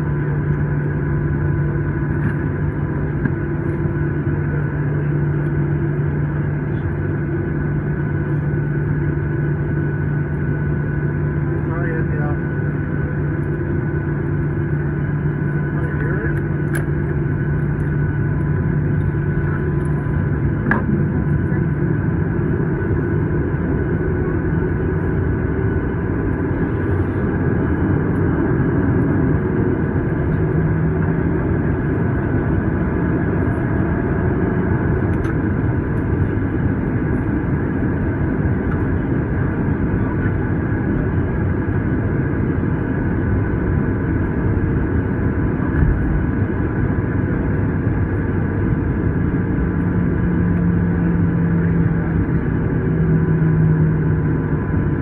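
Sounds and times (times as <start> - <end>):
faint steady whine: 0.0 - 55.0
jet engines idling: 0.0 - 55.0.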